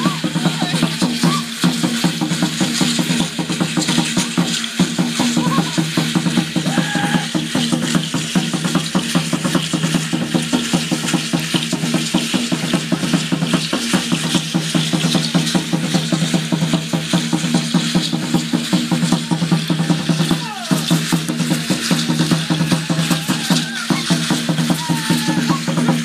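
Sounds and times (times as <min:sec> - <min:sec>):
fast drumming: 0:00.0 - 0:26.0
seed-pod ankle rattles shaking: 0:00.0 - 0:26.0.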